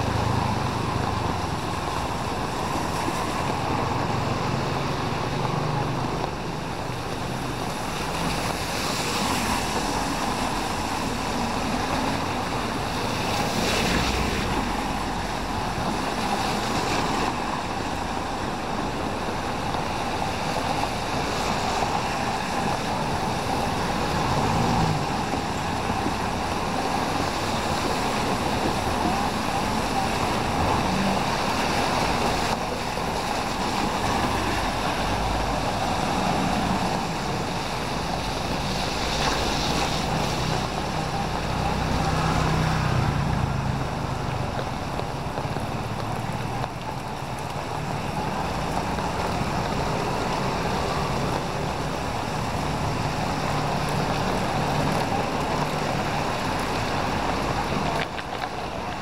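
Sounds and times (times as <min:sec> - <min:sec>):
rain hissing: 0:00.0 - 0:59.0
tyres on a wet street: 0:00.0 - 0:59.0.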